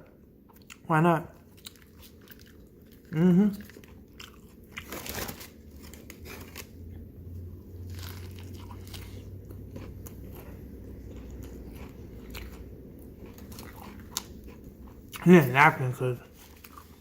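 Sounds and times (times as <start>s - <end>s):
biting and chewing crispy taco: 0.4s - 17.0s.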